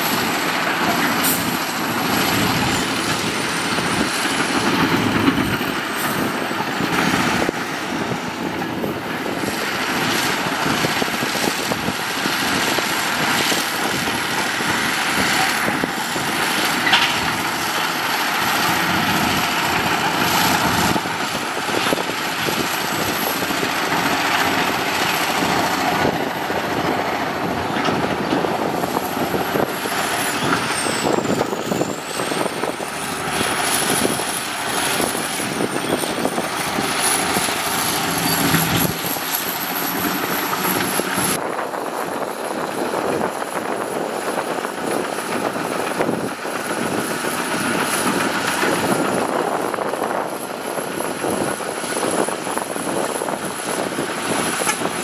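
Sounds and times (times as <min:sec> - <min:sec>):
diesel machinery rattling: 0:00.0 - 0:55.0.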